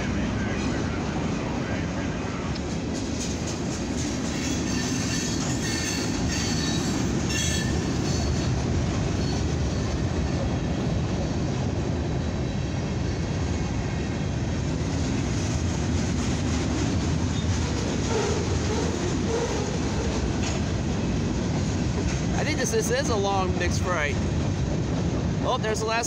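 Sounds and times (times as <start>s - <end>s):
freight train wheels rumbling and clattering: 0.0s - 26.0s.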